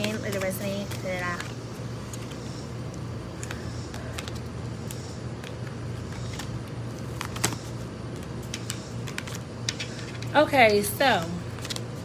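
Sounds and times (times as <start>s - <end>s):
cards being shuffled: 0.0s - 12.0s
steady low hum: 0.0s - 12.0s.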